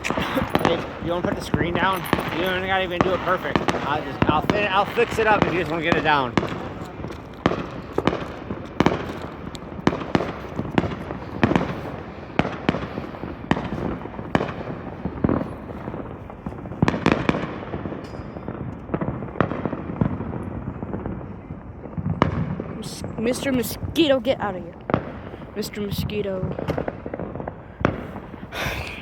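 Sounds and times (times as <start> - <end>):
fireworks banging: 0.0 - 29.0.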